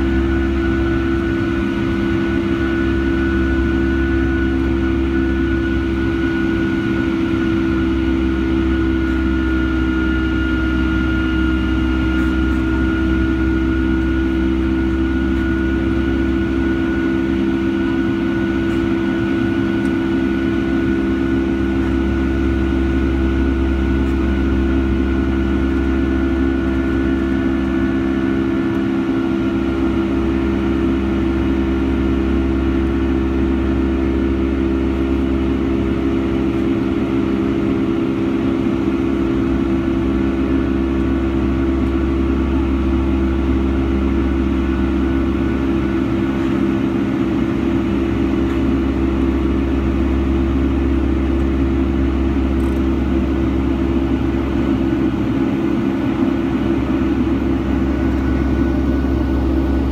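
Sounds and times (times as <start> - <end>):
jet engine drone in cabin: 0.0 - 59.9
steady buzzing hum: 0.0 - 59.9.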